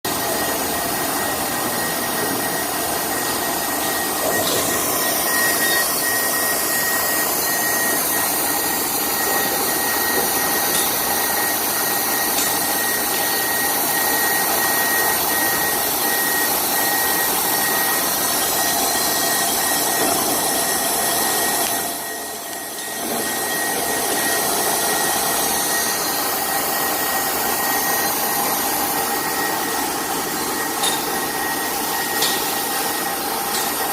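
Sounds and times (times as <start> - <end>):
milling machine whine: 0.1 - 33.9.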